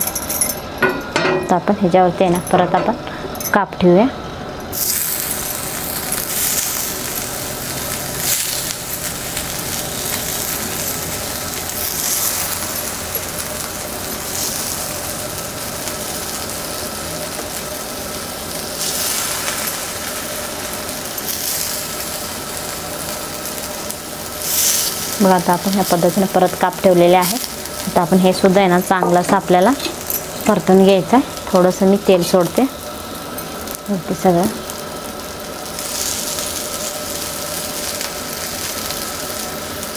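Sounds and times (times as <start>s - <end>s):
slices sizzling in hot oil: 4.7s - 39.9s.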